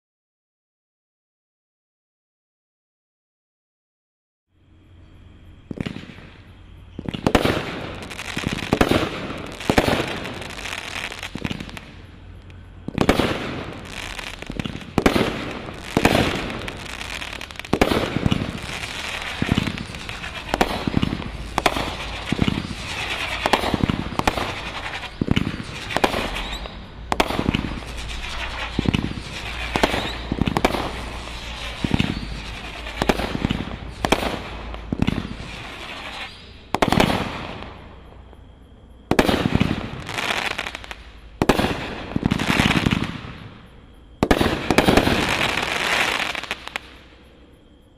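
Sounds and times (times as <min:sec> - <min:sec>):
firework shots banging: 0:05.7 - 0:37.8, 0:39.1 - 0:43.5, 0:44.2 - 0:46.9
firework crackling: 0:05.7 - 0:38.2, 0:39.1 - 0:47.1.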